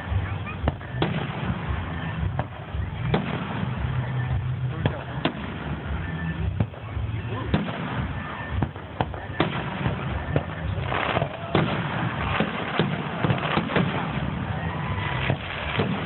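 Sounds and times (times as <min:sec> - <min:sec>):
background rumble and hiss: 0:00.0 - 0:16.0
fireworks bangs and pops: 0:00.0 - 0:16.0.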